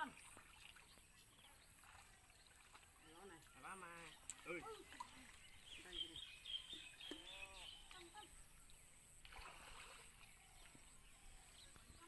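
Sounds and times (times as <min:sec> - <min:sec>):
pond water sloshing and splashing: 0:00.0 - 0:12.0.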